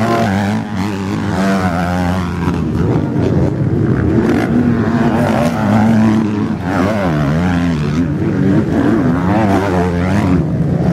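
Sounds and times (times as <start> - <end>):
motocross engines revving: 0.0 - 10.9.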